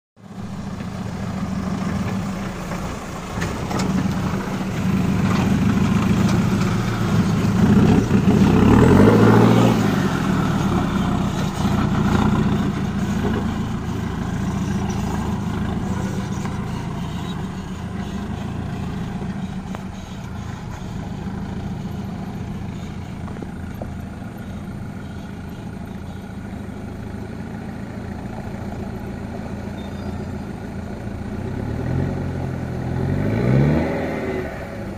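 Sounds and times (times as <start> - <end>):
off-road vehicle engine revving: 0.2 - 34.9.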